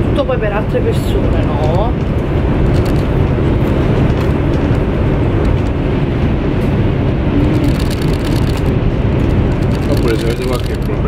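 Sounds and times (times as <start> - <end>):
train running low rumble: 0.0 - 11.0.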